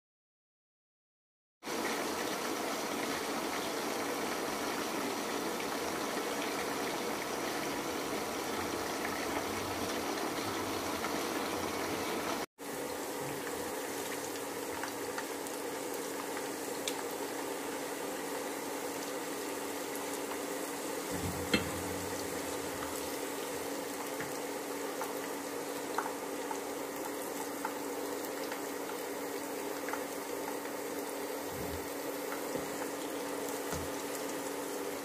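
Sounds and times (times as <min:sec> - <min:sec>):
eggplant deep-frying in oil: 0:01.6 - 0:35.0.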